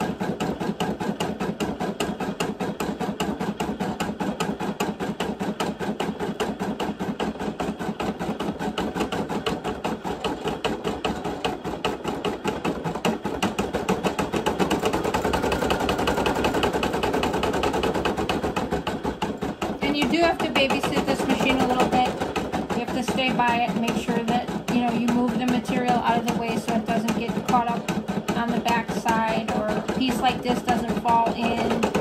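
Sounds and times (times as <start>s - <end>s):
embroidery machine needle clatter: 0.0s - 32.0s.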